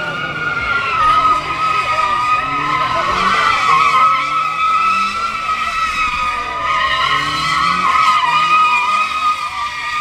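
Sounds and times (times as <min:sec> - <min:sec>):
car engine revving: 0:00.0 - 0:10.0
car tyres screeching: 0:00.0 - 0:10.0
faint crowd voices: 0:00.0 - 0:10.0.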